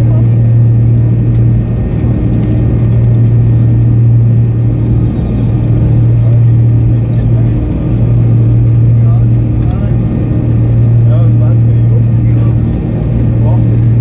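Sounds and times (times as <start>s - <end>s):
jet engines humming in cabin: 0.0s - 14.0s.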